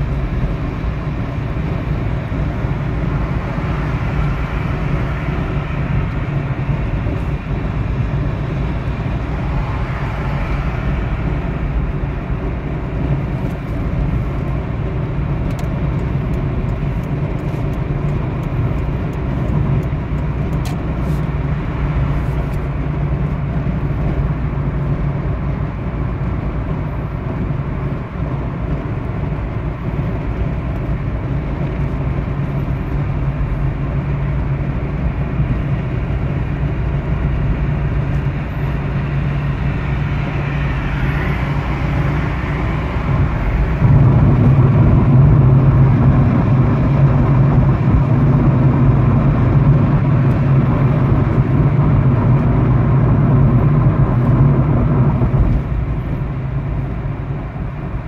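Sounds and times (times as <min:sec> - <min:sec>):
engine drone inside a car: 0:00.0 - 0:58.0.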